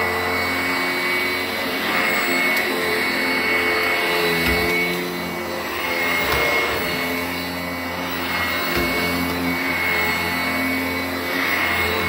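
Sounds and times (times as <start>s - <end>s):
vacuum cleaner running on carpet: 0.0s - 12.0s.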